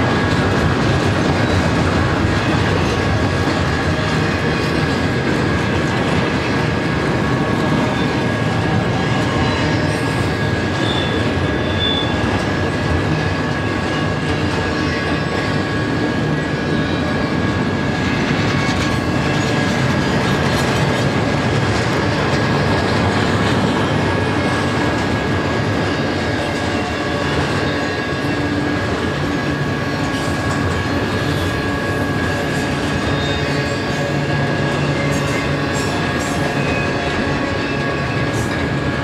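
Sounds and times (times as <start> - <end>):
train cars rumbling on rails: 0.0 - 39.0.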